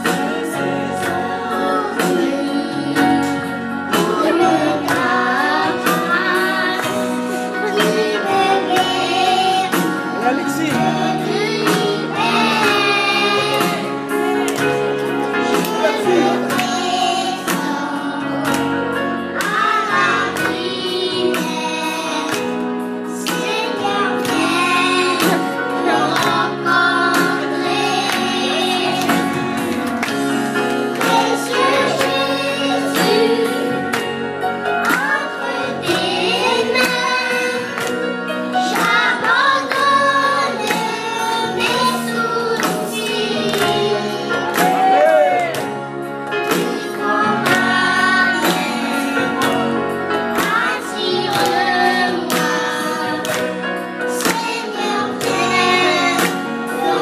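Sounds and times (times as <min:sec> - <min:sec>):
boys singing gospel song: 0:00.0 - 0:45.7, 0:46.4 - 0:57.0.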